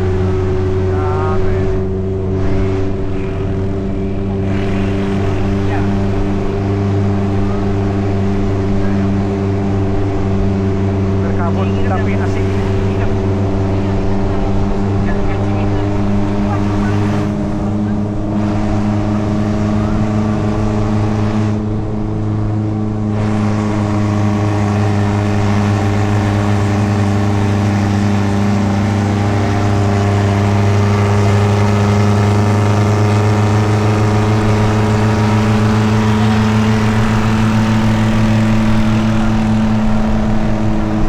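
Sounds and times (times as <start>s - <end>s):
car engine droning: 0.0s - 41.0s.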